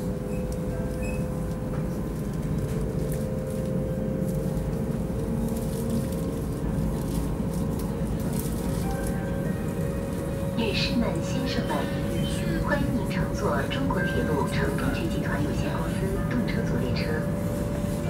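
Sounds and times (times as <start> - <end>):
train cabin rumble: 0.0 - 18.0.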